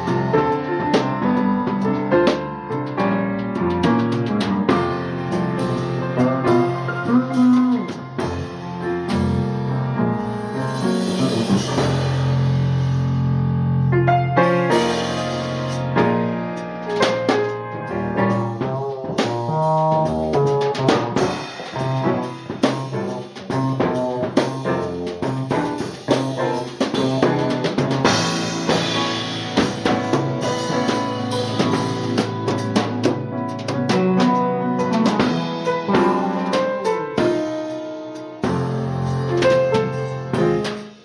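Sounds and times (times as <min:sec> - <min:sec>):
band music: 0:00.0 - 0:41.0
drum kit playing busy beats: 0:00.0 - 0:41.0.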